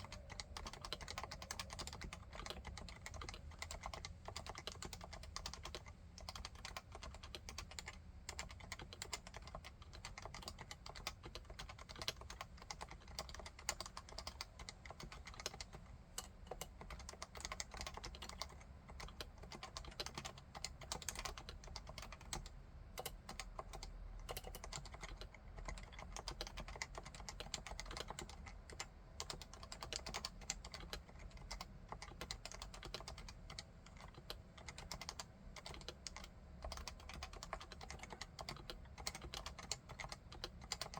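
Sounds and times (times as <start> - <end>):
fast keyboard typing: 0.0 - 40.9.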